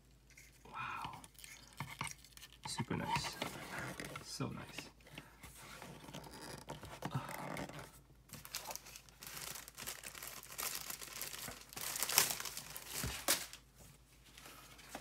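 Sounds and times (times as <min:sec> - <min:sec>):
crinkling: 0:00.0 - 0:15.0
plastic figure handling noise: 0:00.1 - 0:15.0.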